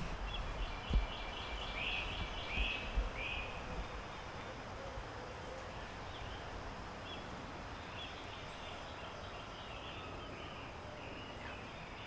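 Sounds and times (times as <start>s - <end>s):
small birds chirping: 0.0s - 4.6s, 5.6s - 12.0s
wind: 0.0s - 12.0s.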